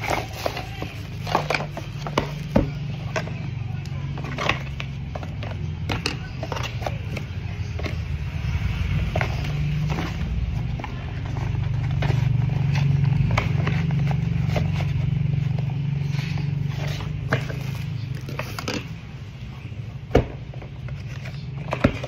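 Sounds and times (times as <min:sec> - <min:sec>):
objects clicking and rustling: 0:00.0 - 0:08.2, 0:09.0 - 0:19.1.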